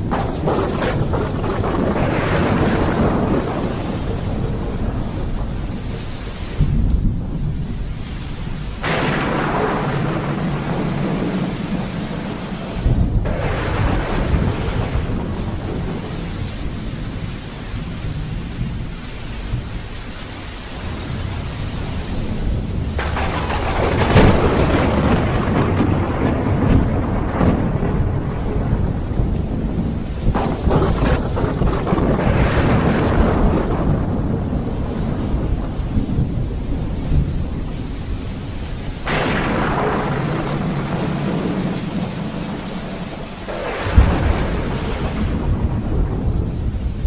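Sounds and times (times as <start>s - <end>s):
rain hissing: 0.0s - 47.0s
thunder rumbling: 0.0s - 47.0s.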